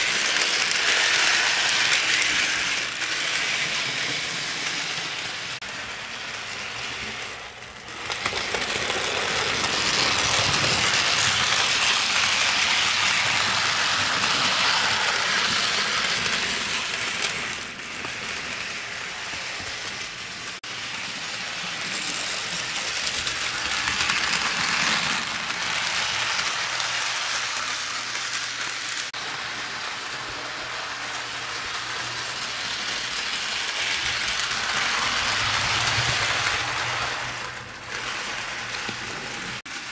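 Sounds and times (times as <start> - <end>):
model train motor whirring: 0.0 - 39.9
wheels rattling over rails: 0.0 - 39.9.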